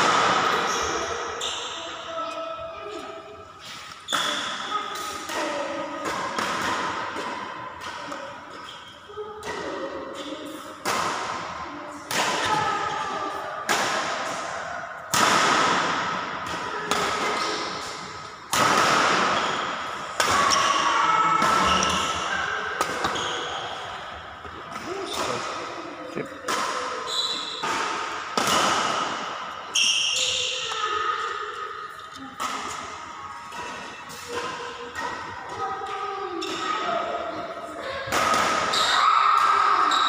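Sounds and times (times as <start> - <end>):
racket hitting shuttlecock: 4.0 - 31.6, 32.4 - 36.9, 38.0 - 39.9.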